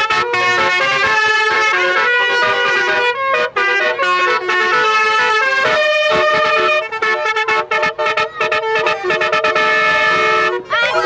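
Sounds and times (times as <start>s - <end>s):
multi-tone vehicle horn tune: 0.0s - 11.0s.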